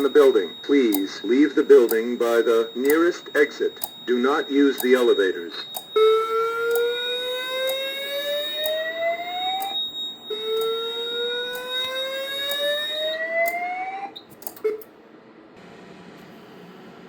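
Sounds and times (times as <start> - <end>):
steady high tone: 0.0 - 14.2
speaker clicks: 0.0 - 14.9.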